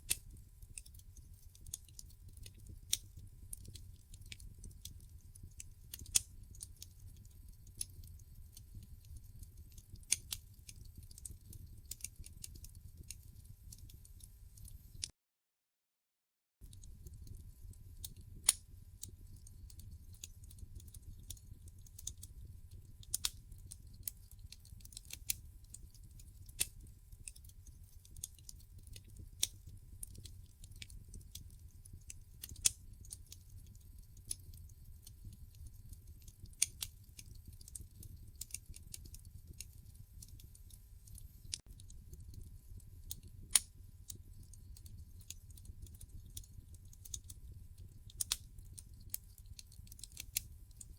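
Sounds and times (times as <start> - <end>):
low rumble of flames: 0.0 - 15.1, 16.6 - 50.9
wood fire crackling and popping: 0.0 - 15.1, 16.6 - 50.9.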